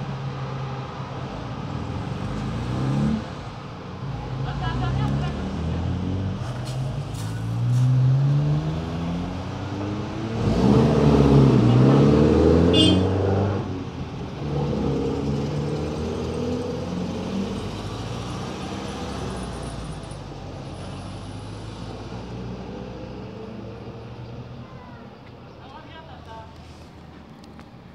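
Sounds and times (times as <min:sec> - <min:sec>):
car engines revving past: 0:00.1 - 0:24.7.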